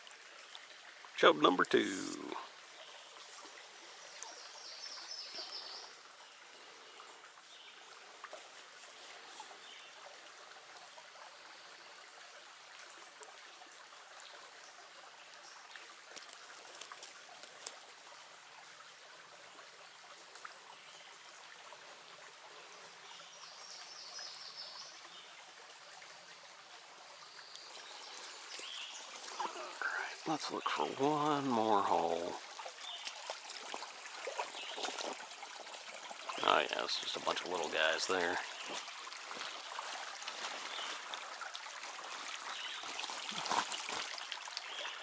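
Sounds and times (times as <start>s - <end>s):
water trickling over stones: 0.0s - 45.0s.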